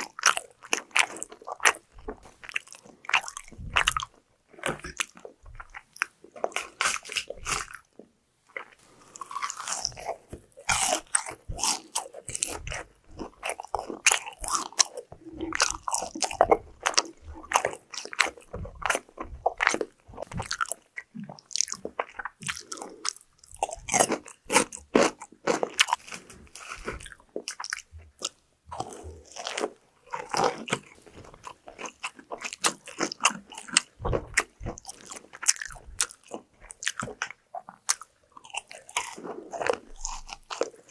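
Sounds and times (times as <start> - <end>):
crackling chewing: 0.0 - 40.9.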